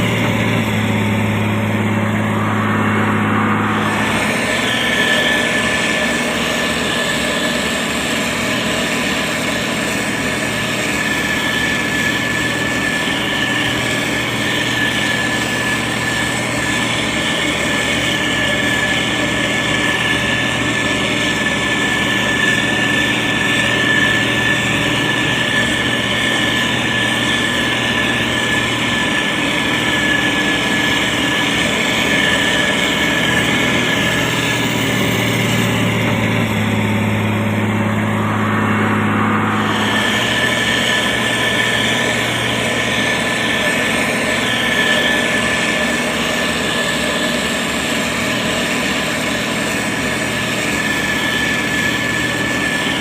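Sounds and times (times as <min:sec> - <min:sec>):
diesel engine running: 0:00.0 - 0:53.0
high whine: 0:00.0 - 0:53.0.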